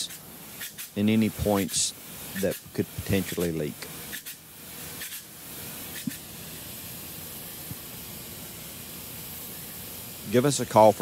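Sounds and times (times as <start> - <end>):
spray gun hissing: 0.0 - 11.0.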